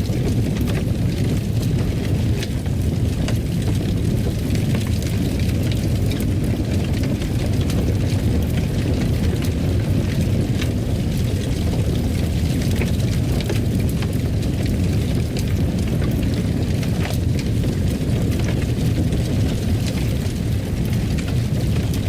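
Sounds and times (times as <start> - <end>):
fire crackling in a fireplace: 0.0 - 22.0.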